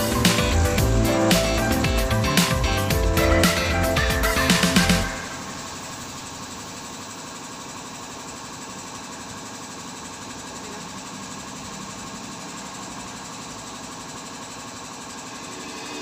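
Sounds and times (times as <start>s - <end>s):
engine drone: 0.0s - 9.2s, 10.0s - 16.0s.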